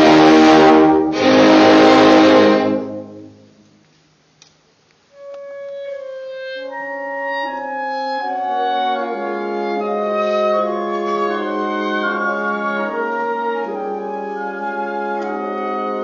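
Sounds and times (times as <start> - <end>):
orchestral wind instruments: 0.0 - 3.7, 5.1 - 16.0.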